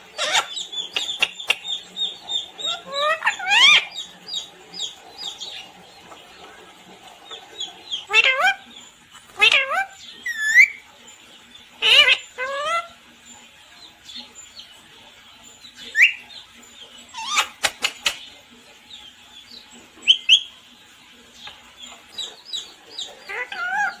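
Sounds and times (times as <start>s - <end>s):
parrot squawking and chirping: 0.0s - 18.3s, 19.4s - 24.0s.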